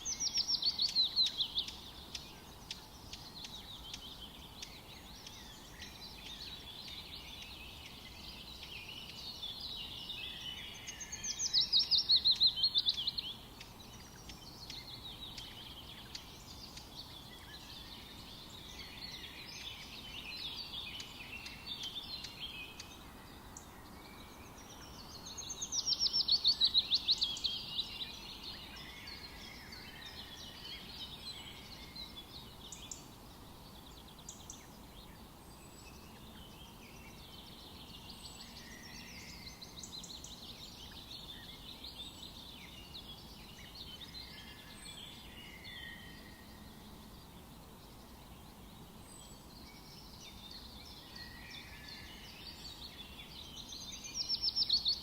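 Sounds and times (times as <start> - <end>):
faint steady hiss: 0.0 - 55.0
songbirds singing and calling: 0.0 - 55.0.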